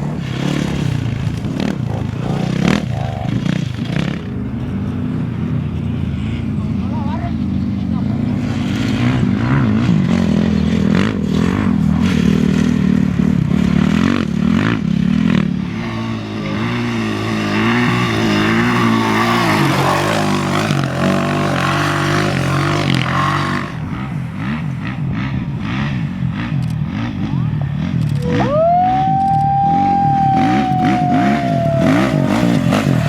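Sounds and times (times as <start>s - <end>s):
off-road vehicle engine revving: 0.0s - 33.0s.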